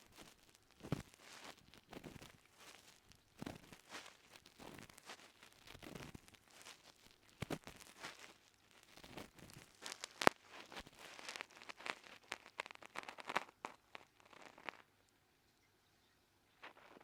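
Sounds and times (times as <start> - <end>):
earwax crackling: 0.0 - 15.2, 16.6 - 17.0.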